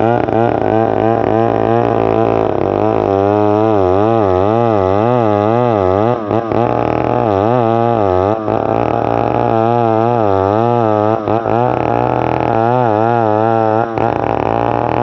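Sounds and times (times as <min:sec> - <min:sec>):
chainsaw sawing log: 0:00.0 - 0:15.0.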